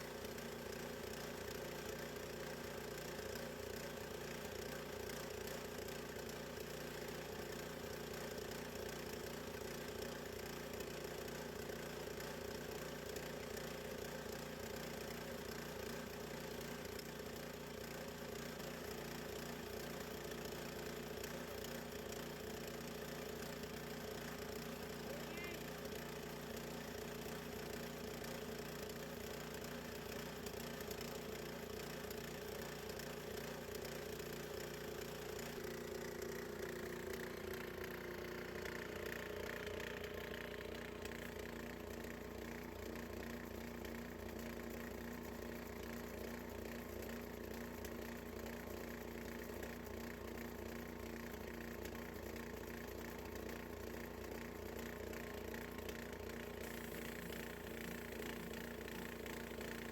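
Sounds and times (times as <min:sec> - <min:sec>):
bandsaw mill gas engine running: 0:00.0 - 0:59.9.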